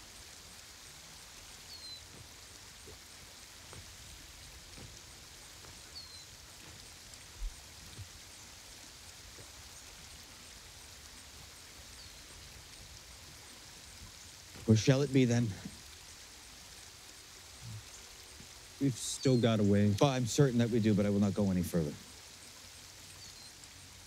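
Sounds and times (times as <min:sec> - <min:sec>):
stream running: 0:00.0 - 0:24.0.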